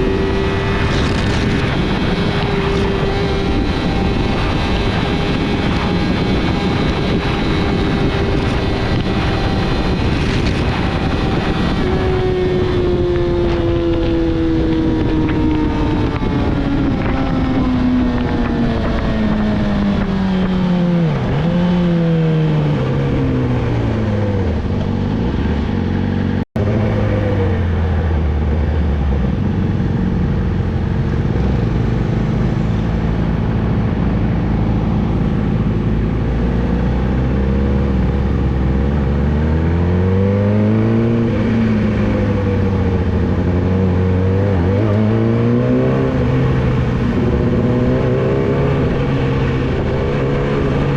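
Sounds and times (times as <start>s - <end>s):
motorcycle engine slowing and revving: 0.0s - 50.9s.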